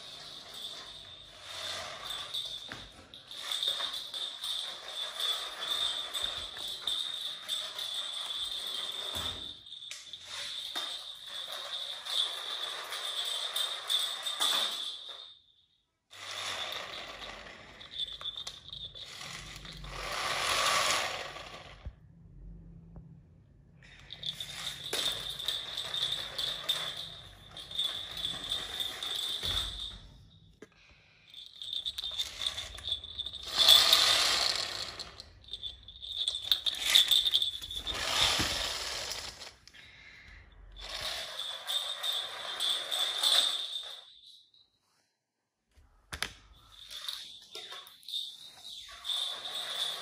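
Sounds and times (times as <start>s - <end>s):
toy motor whirring and rattling: 0.0s - 9.2s, 10.2s - 15.1s, 16.1s - 21.9s, 24.0s - 29.9s, 31.4s - 39.7s, 40.8s - 44.1s, 46.8s - 50.0s.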